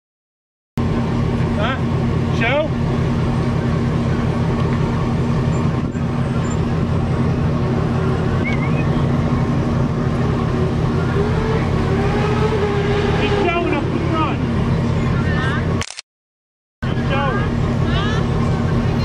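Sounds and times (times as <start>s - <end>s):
car engine rumbling: 0.8s - 15.8s, 16.8s - 19.0s.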